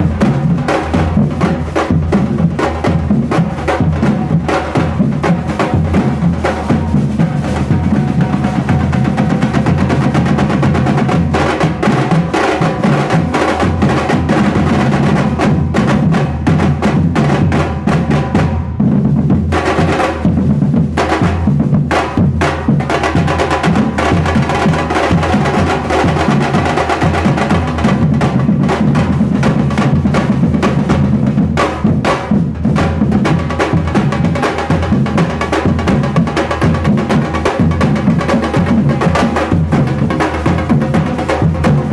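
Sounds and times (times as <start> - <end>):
percussion group drumming: 0.0 - 41.9.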